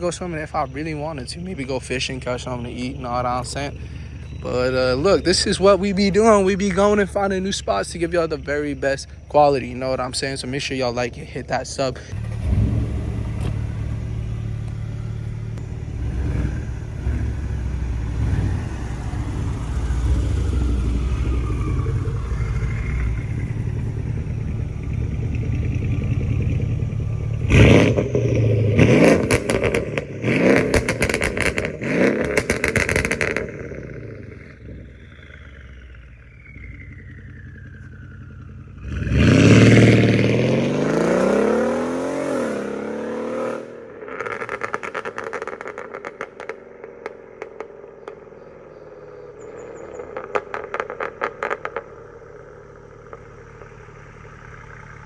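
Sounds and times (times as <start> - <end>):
exhaust crackles and pops: 0.0 - 40.6, 44.0 - 55.0
car engine revving: 0.0 - 55.0.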